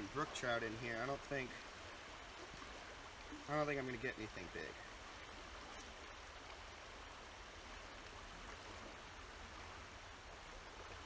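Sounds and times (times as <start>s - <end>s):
light rain falling: 0.0s - 11.0s
river current rushing: 0.0s - 11.0s.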